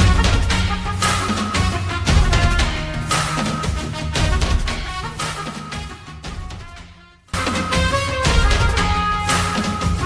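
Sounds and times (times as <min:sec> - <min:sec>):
music with heavy bass beat: 0:00.0 - 0:06.8, 0:07.4 - 0:10.0.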